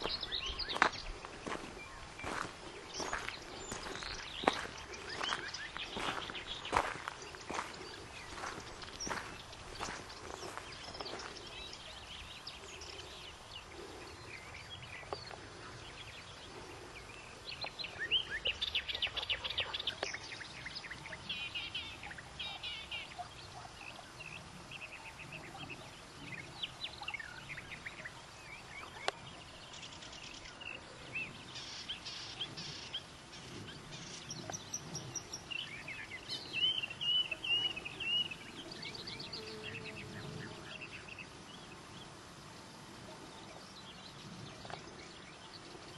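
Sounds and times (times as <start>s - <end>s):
low outdoor background noise: 0.0s - 45.9s
songbirds chirping and singing: 0.0s - 45.9s.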